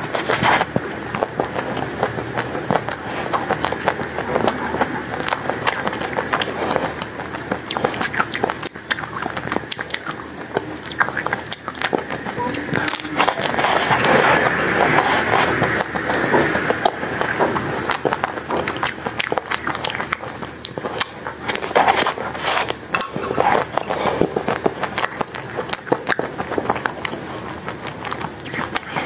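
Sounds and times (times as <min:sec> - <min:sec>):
chewing and crunching: 0:00.0 - 0:29.0
wet mouth sounds: 0:00.0 - 0:29.0.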